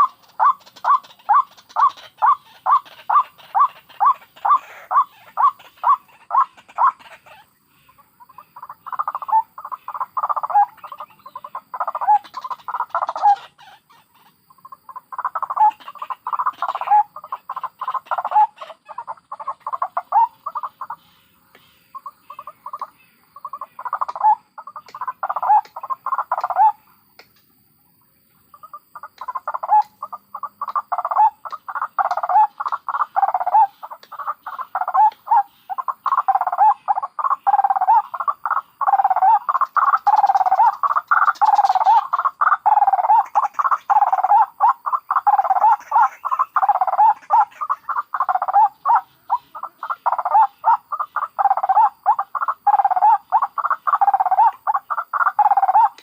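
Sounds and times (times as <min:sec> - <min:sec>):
waterhen croaking calls: 0:00.0 - 0:26.9, 0:28.4 - 0:56.0.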